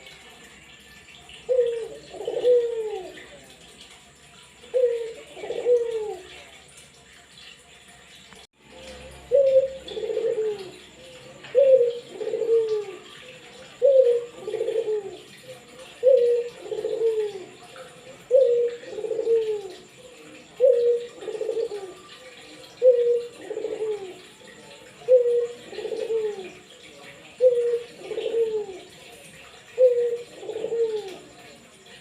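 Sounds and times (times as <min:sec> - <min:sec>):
dove cooing: 0:00.0 - 0:06.6, 0:08.7 - 0:32.0.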